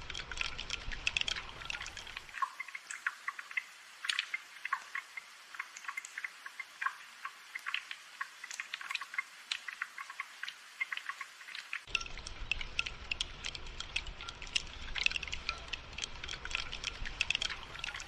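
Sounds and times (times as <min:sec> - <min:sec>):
light rain ticking: 0:00.0 - 0:18.0.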